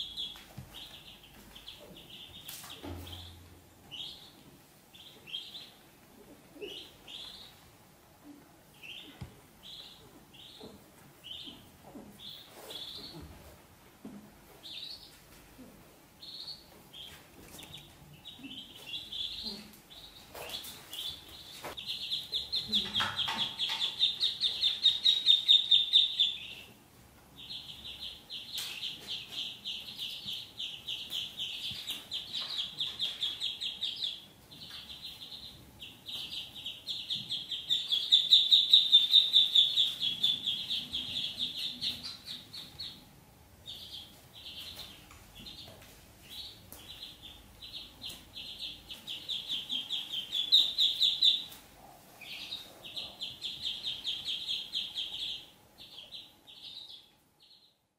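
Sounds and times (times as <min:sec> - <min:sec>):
ducklings peeping: 0:00.0 - 0:13.4, 0:14.6 - 0:15.2, 0:16.2 - 0:57.8.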